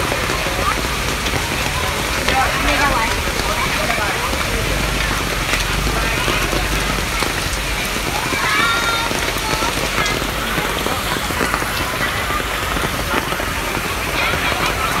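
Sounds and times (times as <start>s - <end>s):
rushing splashing water: 0.0s - 15.0s.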